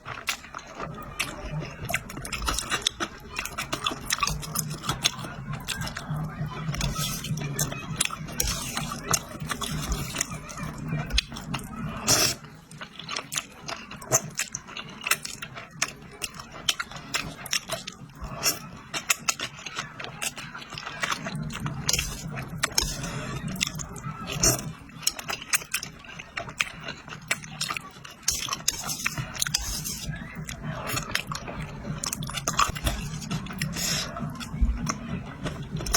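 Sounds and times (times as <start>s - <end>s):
person chewing noodles: 0.0s - 35.9s.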